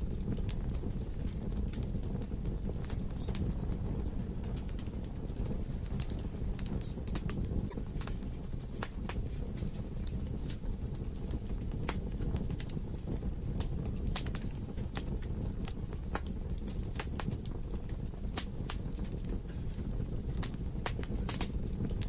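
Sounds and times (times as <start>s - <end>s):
fire flames rumbling: 0.0s - 22.0s
wood crackling and popping: 0.0s - 22.0s.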